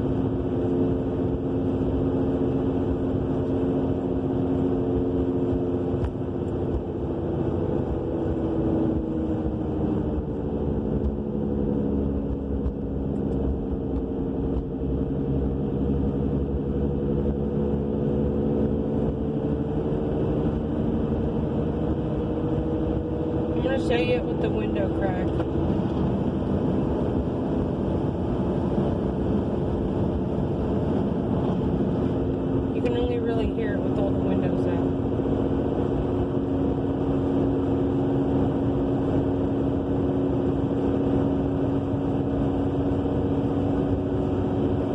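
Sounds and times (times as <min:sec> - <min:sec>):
car droning hum: 0:00.0 - 0:44.9
road rumble: 0:00.0 - 0:44.9
wind noise: 0:00.0 - 0:44.9.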